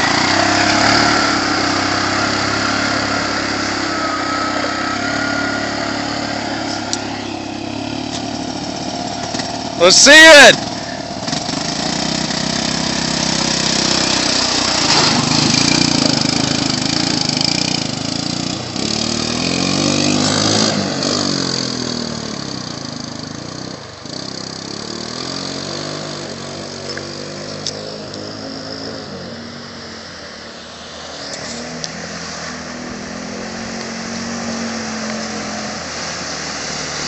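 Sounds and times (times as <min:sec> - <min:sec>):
atv engine revving: 0:00.0 - 0:37.0
water splashing from tyres: 0:00.0 - 0:37.0.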